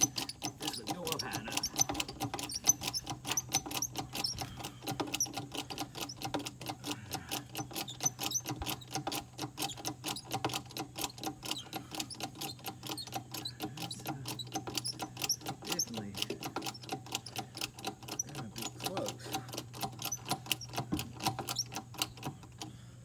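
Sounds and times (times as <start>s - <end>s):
jack clicking rapidly: 0.0s - 22.7s.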